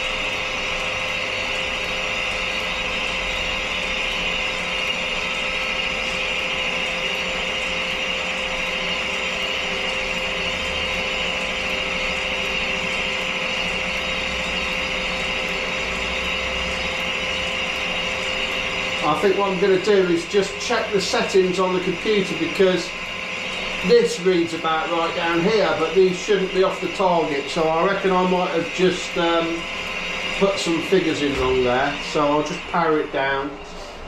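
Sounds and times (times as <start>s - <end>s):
balancing machine whirring: 0.0s - 34.0s.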